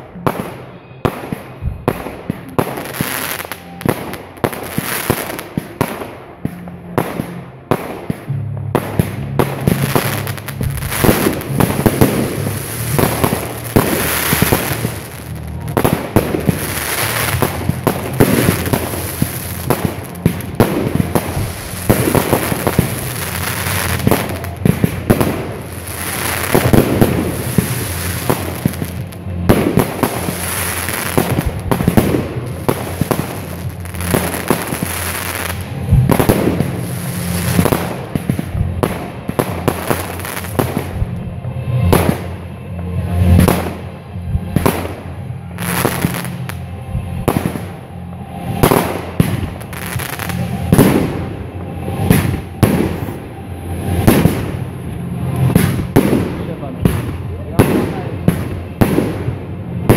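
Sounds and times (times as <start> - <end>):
fireworks crackling: 0.0 - 59.9
fireworks launching and bursting: 0.0 - 59.9.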